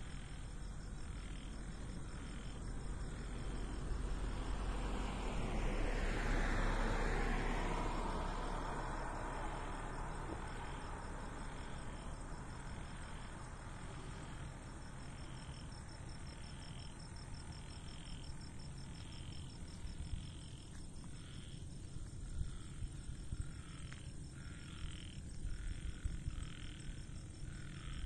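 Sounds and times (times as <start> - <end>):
crickets trilling: 0.0 - 28.0
passing car: 0.0 - 28.0.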